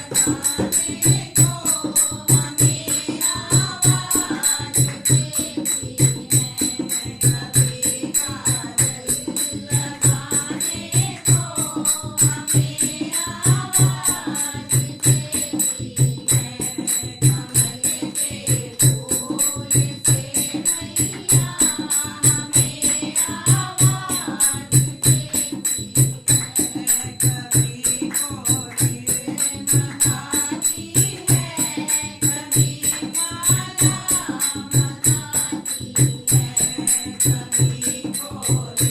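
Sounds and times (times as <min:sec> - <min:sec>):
jingling percussion: 0:00.0 - 0:38.9
steady drum beat: 0:00.0 - 0:38.9.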